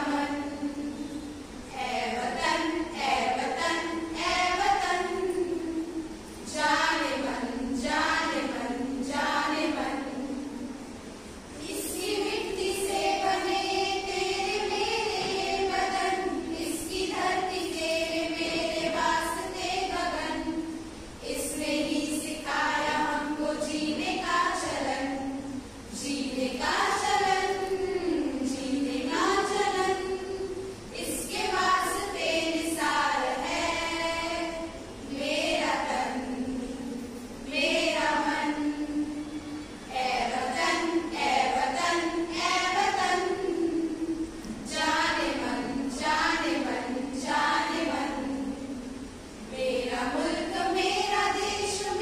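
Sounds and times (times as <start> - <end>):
women singing in unison: 0.0 - 11.0, 11.6 - 52.0.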